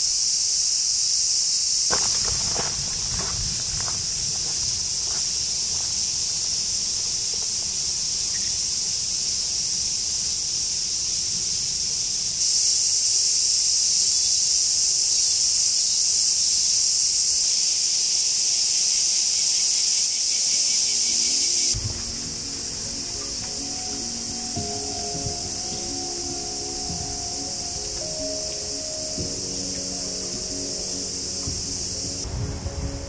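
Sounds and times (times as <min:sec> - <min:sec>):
cicadas buzzing: 0:00.0 - 0:33.0.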